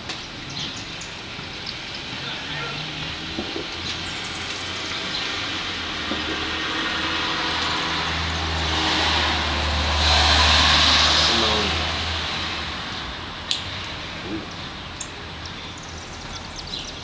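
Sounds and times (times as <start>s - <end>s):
road vehicle passing by: 0.0s - 17.0s.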